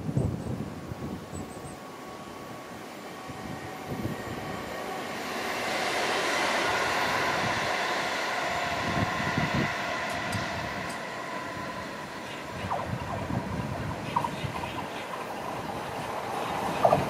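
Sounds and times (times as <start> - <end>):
train passing: 0.0 - 17.0
steady whining tones: 0.5 - 17.0.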